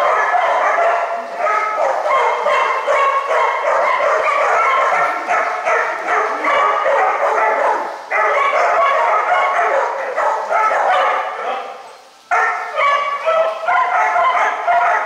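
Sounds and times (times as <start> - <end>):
dogs yipping and barking: 0.0 - 15.0.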